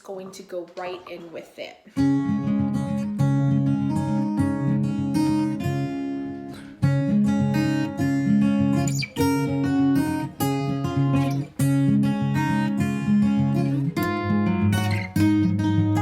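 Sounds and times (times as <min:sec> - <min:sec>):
strummed acoustic guitar music: 0:01.9 - 0:16.0.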